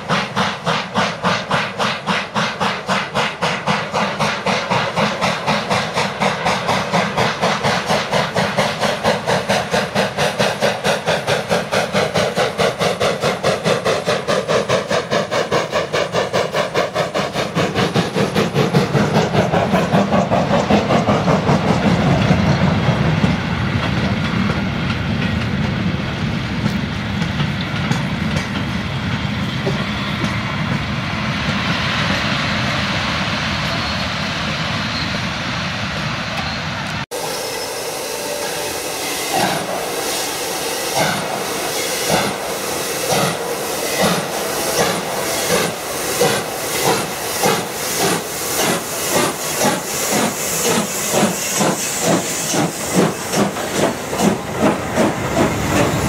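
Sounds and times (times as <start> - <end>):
steam locomotive chuffing: 0.0 - 56.0
train coaches rumbling by: 0.0 - 56.0.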